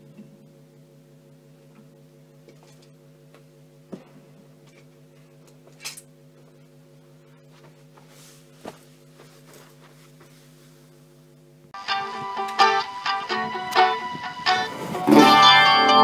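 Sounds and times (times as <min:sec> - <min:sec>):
guitar amplifier electrical hum: 0:00.0 - 0:16.0.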